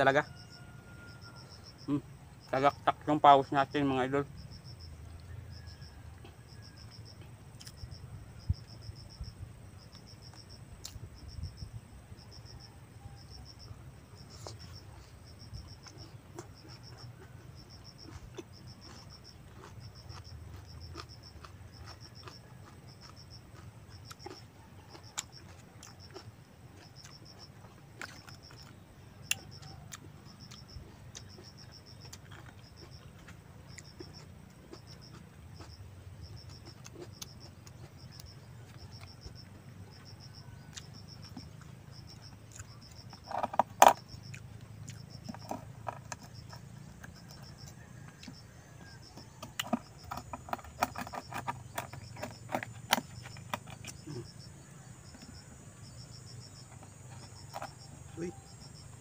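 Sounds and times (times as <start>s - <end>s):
insect chirping trill: 0.0s - 59.0s.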